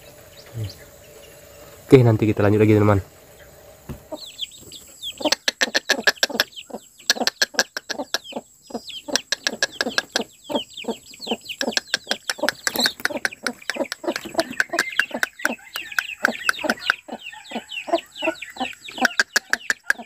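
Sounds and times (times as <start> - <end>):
chicks peeping: 0.0 - 20.0
hen clucking: 0.0 - 20.0.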